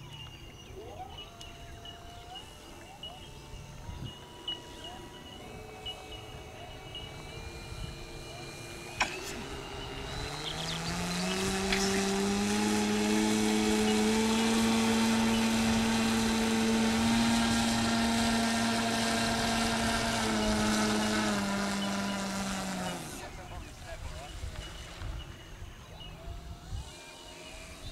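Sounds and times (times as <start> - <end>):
model plane motor whining: 0.0 - 27.9.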